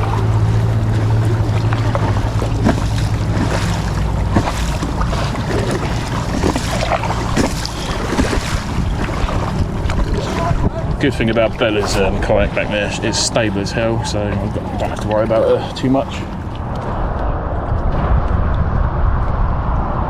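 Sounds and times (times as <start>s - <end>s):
paddle strokes splashing: 0.0s - 17.1s
water slapping hull: 0.0s - 19.0s
low steady hum: 0.0s - 20.0s
wind buffeting microphone: 0.0s - 20.0s.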